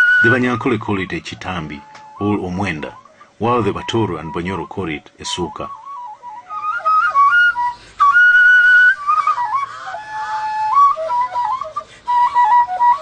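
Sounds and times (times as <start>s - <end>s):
high piping melody: 0.0s - 13.0s.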